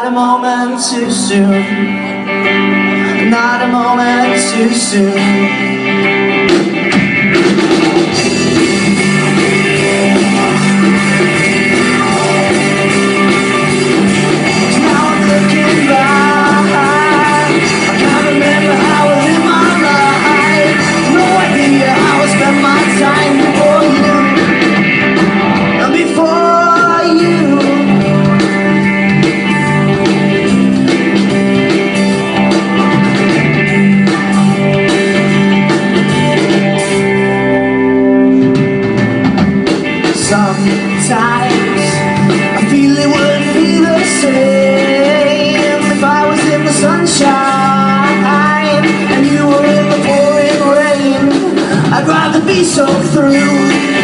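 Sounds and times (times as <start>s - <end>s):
lead guitar melody bending: 0.0s - 54.0s
live rock band playing: 0.0s - 54.0s.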